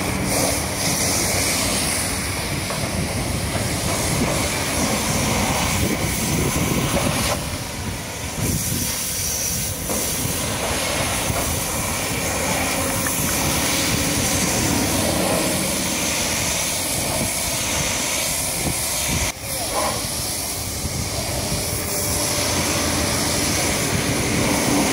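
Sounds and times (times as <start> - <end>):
pressure washer spraying hiss: 0.0 - 24.9.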